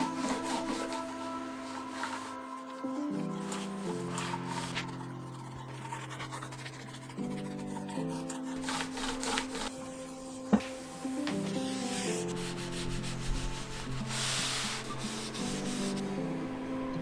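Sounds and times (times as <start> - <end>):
background music with held chords: 0.0 - 6.6, 7.2 - 17.0
sandpaper rubbing on wood: 0.0 - 16.1.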